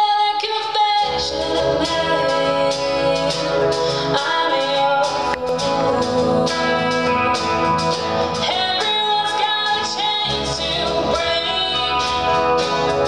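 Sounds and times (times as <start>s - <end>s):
drum kit with cymbal hits: 0.0s - 13.0s
woman singing: 0.0s - 13.0s.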